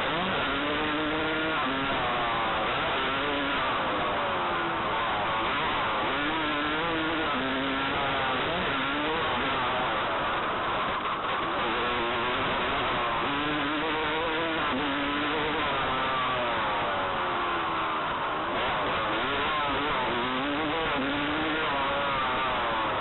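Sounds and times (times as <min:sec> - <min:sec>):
dirt bike engine revving: 0:00.0 - 0:23.0
steady rushing noise: 0:00.0 - 0:23.0.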